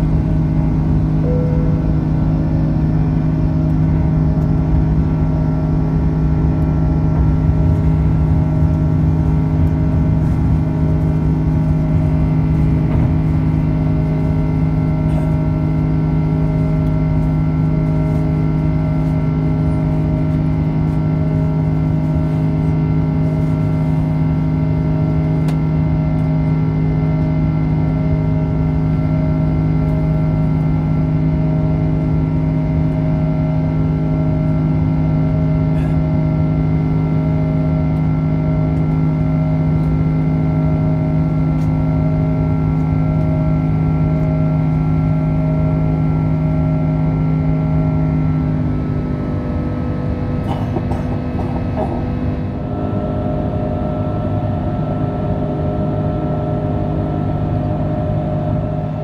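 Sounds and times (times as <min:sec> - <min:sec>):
humming tones: 0:00.0 - 0:59.0
jet engine drone in cabin: 0:00.0 - 0:59.0.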